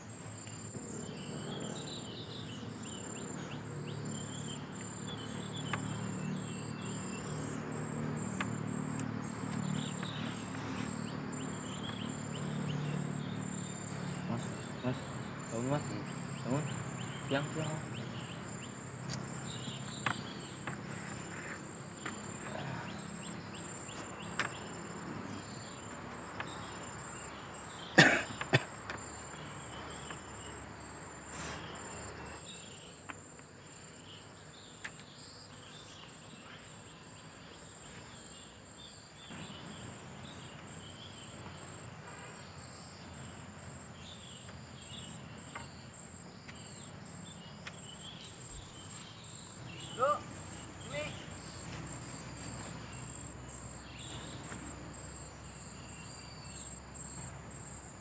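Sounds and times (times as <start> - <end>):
crickets trilling: 0.0 - 58.0
forest ambience: 0.0 - 58.0.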